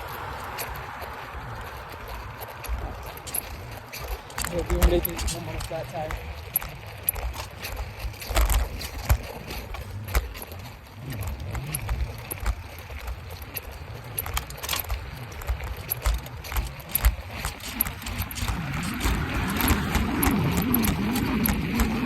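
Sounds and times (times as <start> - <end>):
bicycle tire rumbling on road: 0.0 - 22.0
rattling clicks and knocks: 2.1 - 22.0.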